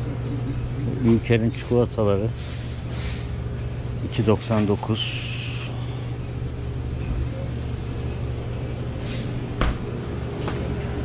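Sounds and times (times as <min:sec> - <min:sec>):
refrigerated cases humming: 0:00.0 - 0:11.0.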